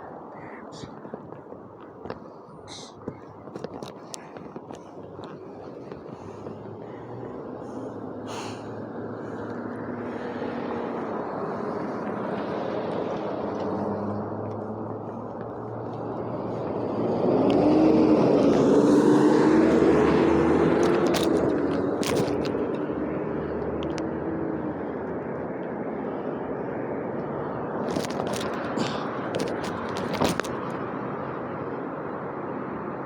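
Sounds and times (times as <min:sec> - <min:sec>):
vehicle passing by: 0:04.8 - 0:32.8.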